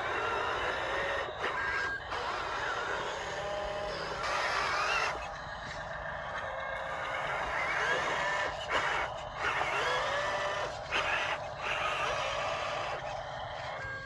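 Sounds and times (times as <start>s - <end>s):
small electric motors whining: 0.0s - 14.0s.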